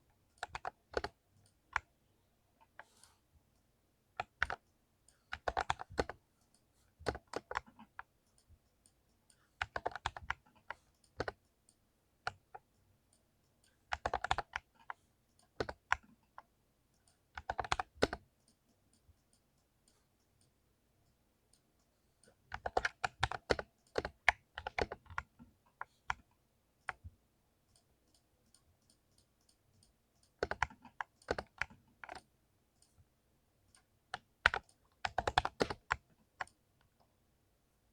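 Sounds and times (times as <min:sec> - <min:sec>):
keyboard typing: 0:00.2 - 0:02.0, 0:04.2 - 0:12.8, 0:13.4 - 0:20.6, 0:22.2 - 0:33.0, 0:33.7 - 0:37.1.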